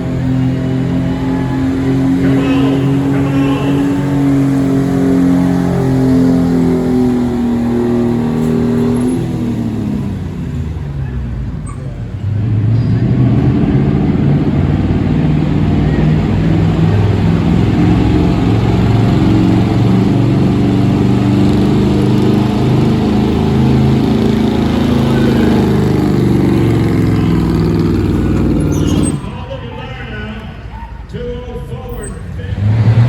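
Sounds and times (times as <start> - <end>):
truck engine at high revs: 0.0 - 29.8, 30.4 - 33.0.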